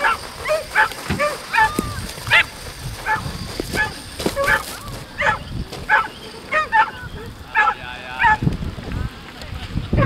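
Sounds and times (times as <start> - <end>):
dog barking and yipping: 0.0 - 8.4.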